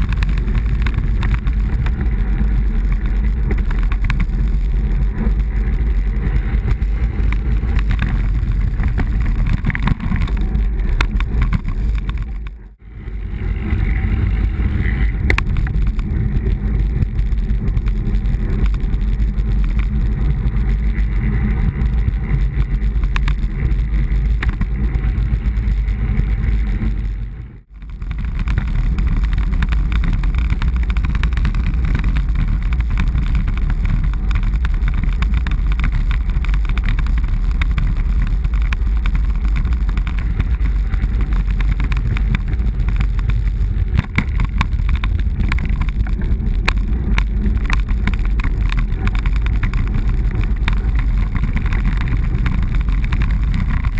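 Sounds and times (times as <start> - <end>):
tyre noise on road: 0.0 - 53.9
wind buffeting microphone: 0.0 - 53.9.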